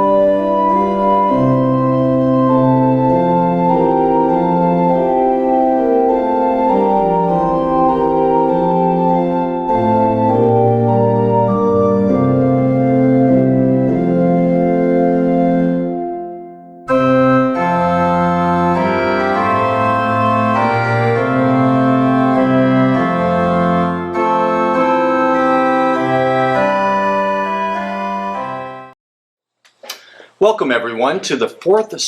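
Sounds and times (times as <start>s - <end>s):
organ playing sustained chords: 0.0s - 29.0s.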